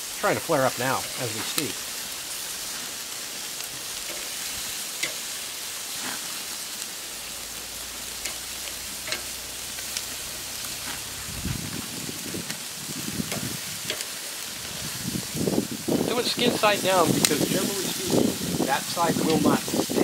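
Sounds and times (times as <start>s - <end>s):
chicken sizzling on grill: 0.0s - 20.0s.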